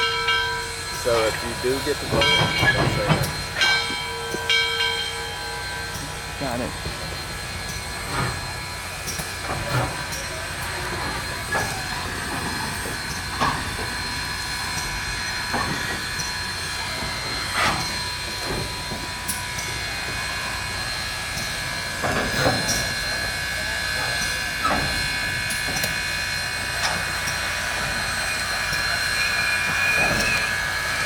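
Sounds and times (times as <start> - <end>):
steam locomotive exhaust beats: 0.0 - 31.0
steam hiss: 0.2 - 31.0.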